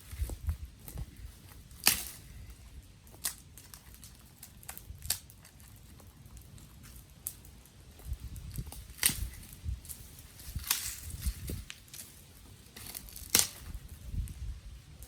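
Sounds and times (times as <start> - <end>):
sticks and twigs snapping: 0.0 - 14.4.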